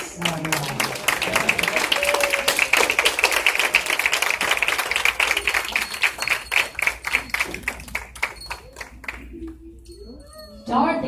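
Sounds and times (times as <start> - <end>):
audience clapping: 0.0 - 9.6.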